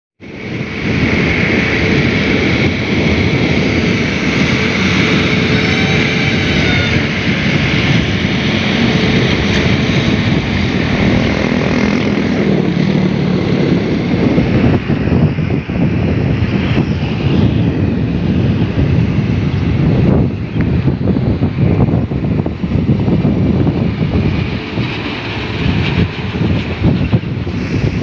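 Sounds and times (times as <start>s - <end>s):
diesel engines running: 0.2s - 28.0s.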